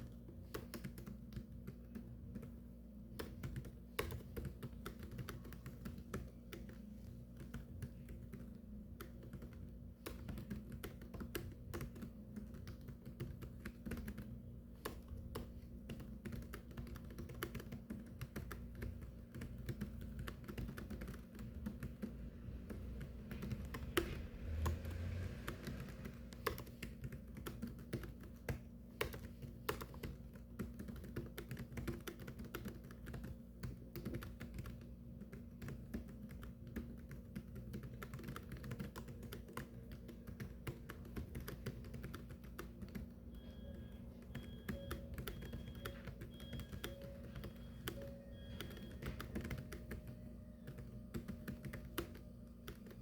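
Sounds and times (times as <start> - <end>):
low steady hum: 0.0 - 53.0
typing on a keyboard: 0.0 - 53.0.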